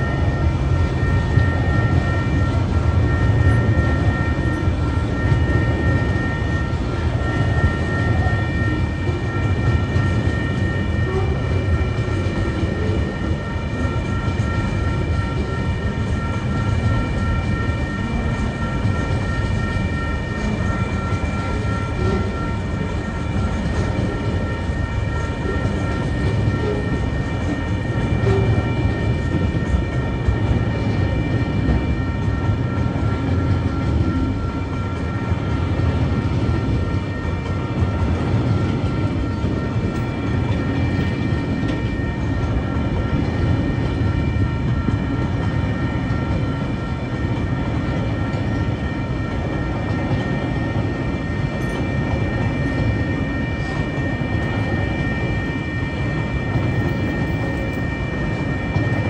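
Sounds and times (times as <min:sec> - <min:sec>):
high-pitched ringing tones: 0:00.0 - 0:59.0
train wheels rumbling on rails: 0:00.0 - 0:59.0.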